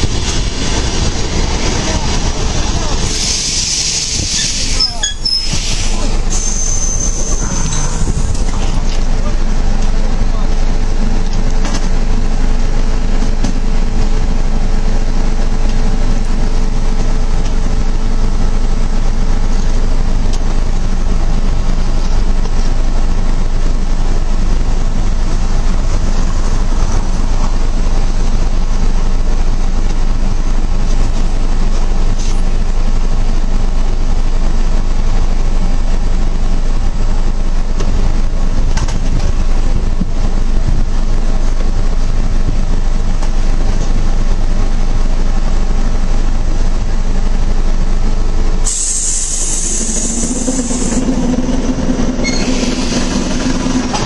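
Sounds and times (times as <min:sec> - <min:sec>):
loud low rumbling: 0:00.0 - 0:54.0.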